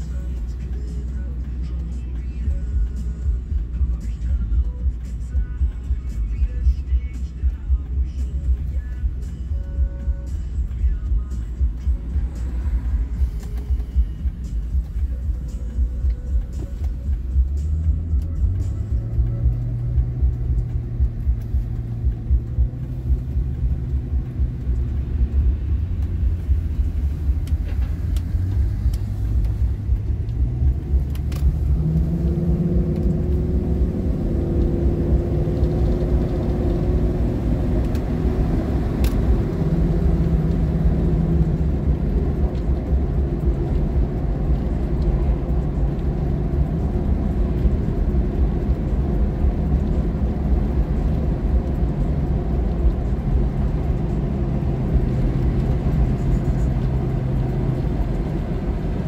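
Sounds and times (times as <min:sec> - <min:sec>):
engine low rumble: 0:00.0 - 0:59.0.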